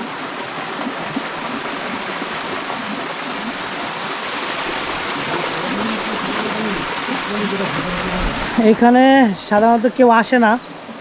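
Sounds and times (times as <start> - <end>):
stream rushing over boulders: 0.0 - 11.0.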